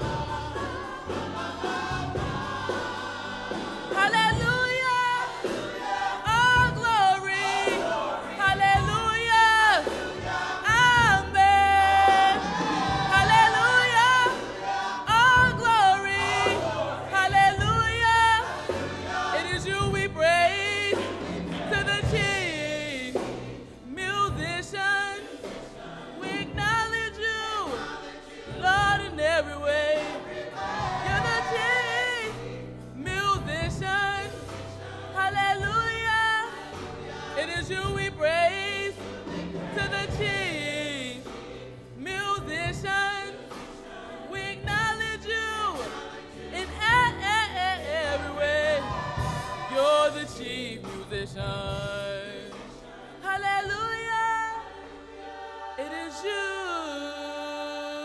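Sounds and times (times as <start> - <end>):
drums: 0.0 - 54.6
gospel choir singing: 0.0 - 58.0
piano: 0.0 - 58.0.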